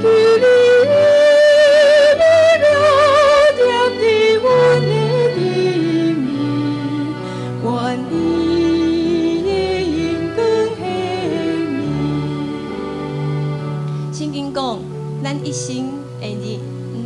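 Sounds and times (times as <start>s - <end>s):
woman singing a hymn: 0.0s - 13.0s, 14.2s - 17.0s
instrumental accompaniment: 0.0s - 17.0s.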